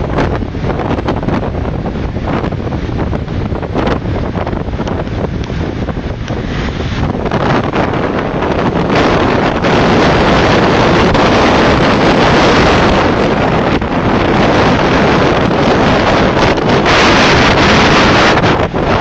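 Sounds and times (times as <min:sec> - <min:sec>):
strong wind on microphone: 0:00.0 - 0:19.0
waves splashing on concrete: 0:00.0 - 0:19.0.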